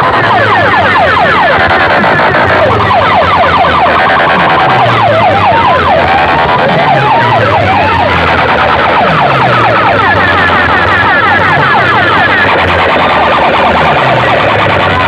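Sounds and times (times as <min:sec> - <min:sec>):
electronic siren effect: 0:00.0 - 0:15.0.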